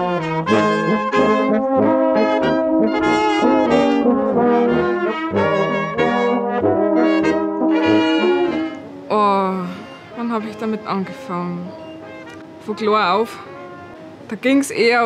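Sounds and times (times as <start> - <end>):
brass band playing: 0.0 - 14.3.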